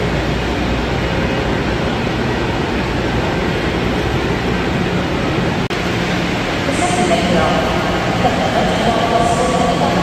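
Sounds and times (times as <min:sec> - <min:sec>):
idling trains humming: 0:00.0 - 0:10.0.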